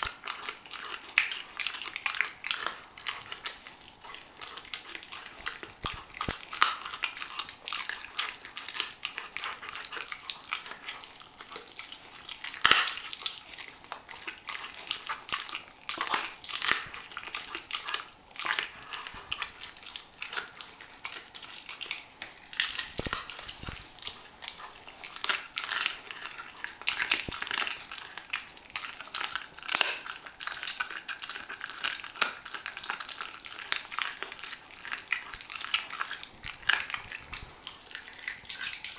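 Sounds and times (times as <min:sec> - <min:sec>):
puppy gnawing and crunching bone: 0:00.0 - 0:38.9.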